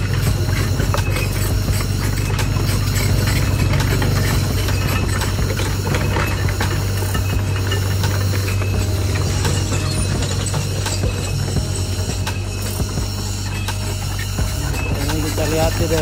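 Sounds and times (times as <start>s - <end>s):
heavy machine engine droning: 0.0s - 16.0s
metallic clicks and clanks: 0.0s - 16.0s.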